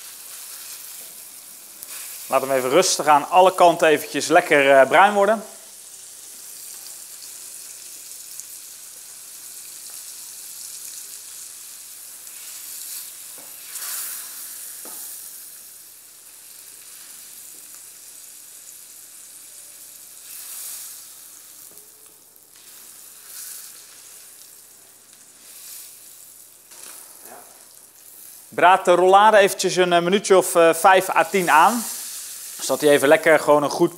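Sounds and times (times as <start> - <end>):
meat sizzling in a frying pan: 0.0 - 29.5, 30.6 - 33.8.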